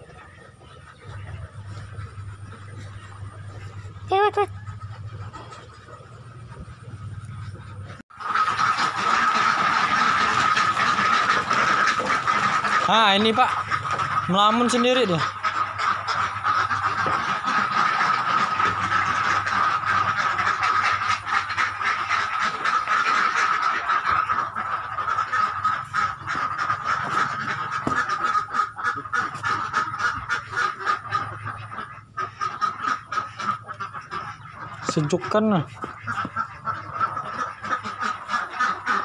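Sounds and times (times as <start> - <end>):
ducks quacking: 0.0 - 39.0.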